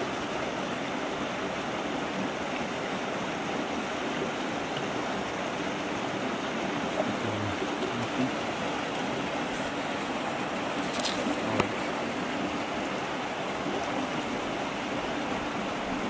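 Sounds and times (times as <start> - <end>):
creek water running over rocks: 0.0 - 16.0.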